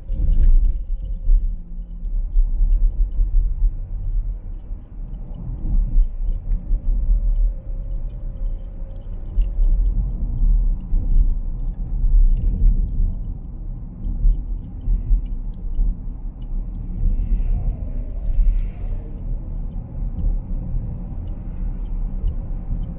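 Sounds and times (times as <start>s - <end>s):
car road and engine rumble: 0.0s - 22.9s.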